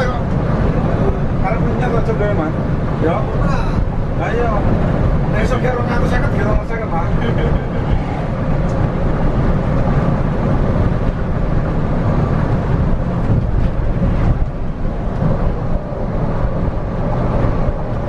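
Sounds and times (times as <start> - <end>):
coach engine and road rumble: 0.0 - 18.0.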